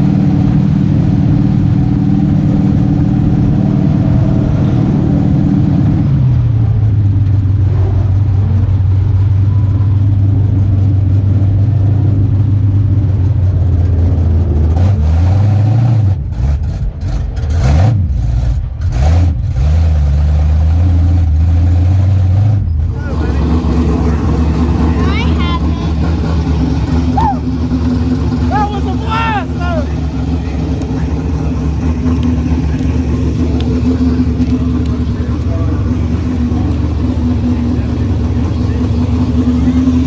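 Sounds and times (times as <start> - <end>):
engine throttle blips: 0.0 - 40.0
race car engine running: 0.0 - 40.0.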